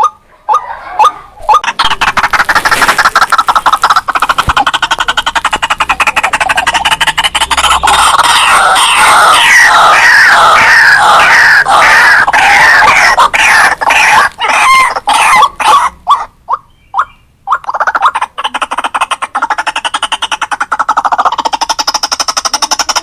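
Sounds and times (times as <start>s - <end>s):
bird raucous chattering calls: 1.4s - 23.0s.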